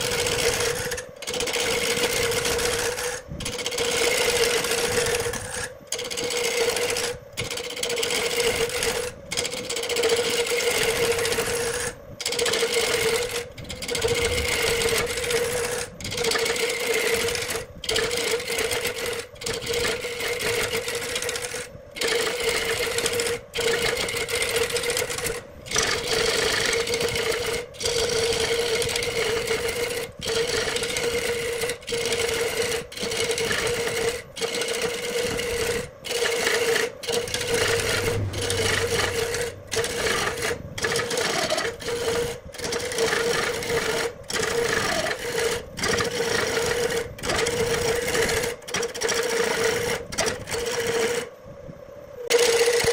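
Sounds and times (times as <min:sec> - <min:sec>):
gouge scraping wood: 0:00.0 - 0:50.3
wood lathe humming: 0:00.0 - 0:51.3, 0:52.3 - 0:52.9.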